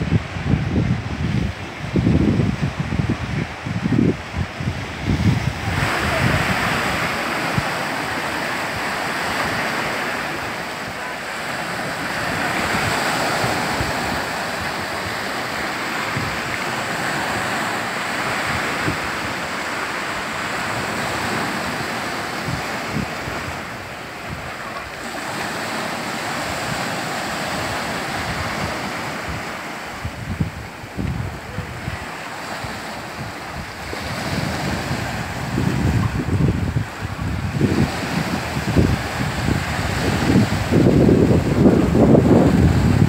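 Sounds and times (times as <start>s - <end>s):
waves washing over pebbly shore: 0.0s - 43.0s.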